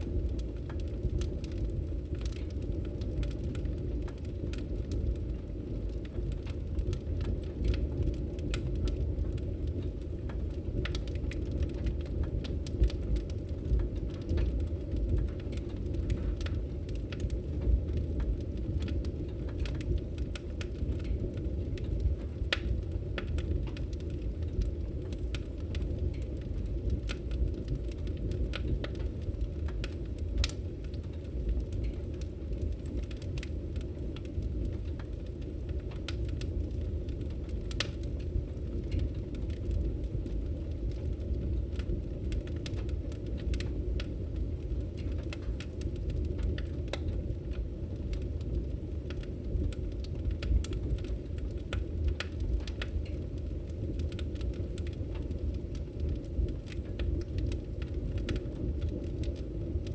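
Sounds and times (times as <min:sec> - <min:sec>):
fire roaring and crackling: 0:00.0 - 0:59.9.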